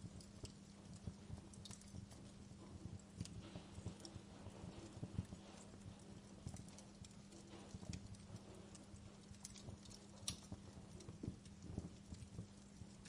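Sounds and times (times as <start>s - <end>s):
faint steady hum: 0.0s - 13.0s
wood fire crackling: 0.0s - 13.0s.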